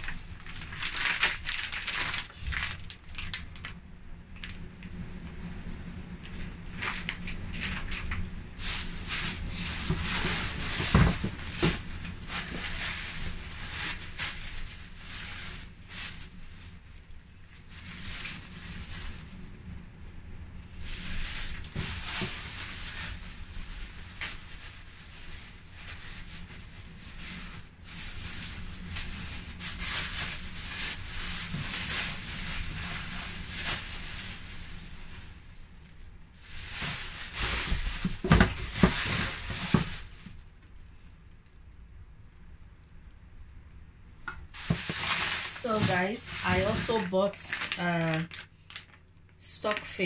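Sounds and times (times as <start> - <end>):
plastic bags rustling: 0.0 - 4.8, 6.2 - 41.6, 44.2 - 50.0.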